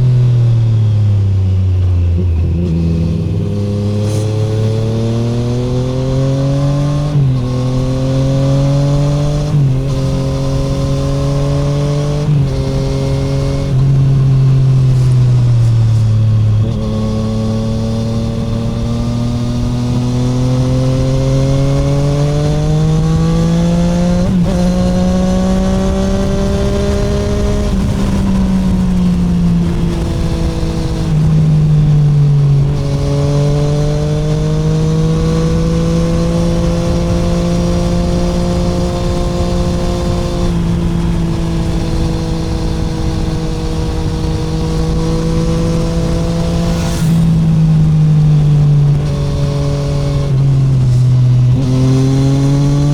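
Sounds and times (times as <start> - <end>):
motorcycle engine at road speed: 0.0 - 52.9.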